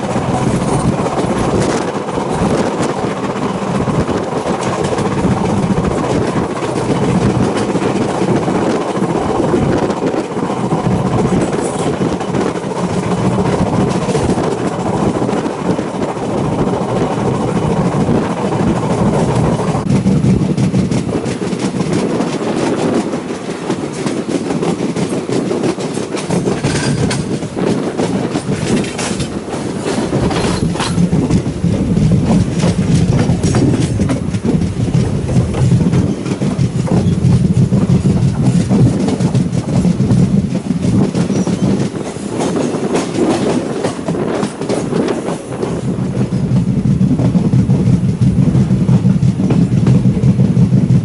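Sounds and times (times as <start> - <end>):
train rumbling: 0.0 - 51.0
wheels clicking over rail joints: 0.0 - 51.0.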